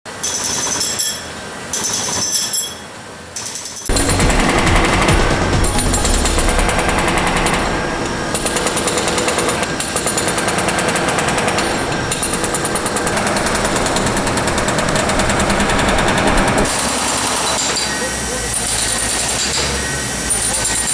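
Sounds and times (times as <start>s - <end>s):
demolition hammer chipping concrete: 3.5s - 20.9s.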